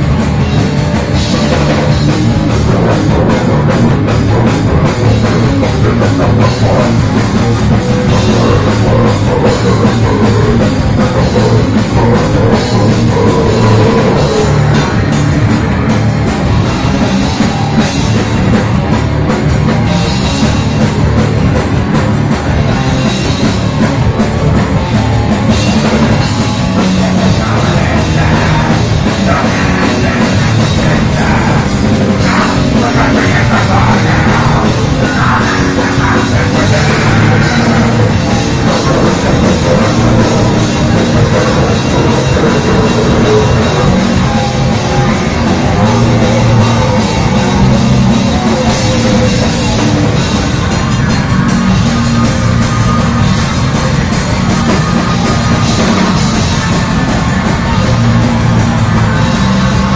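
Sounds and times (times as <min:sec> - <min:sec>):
live punk band playing loud: 0:00.0 - 0:59.9.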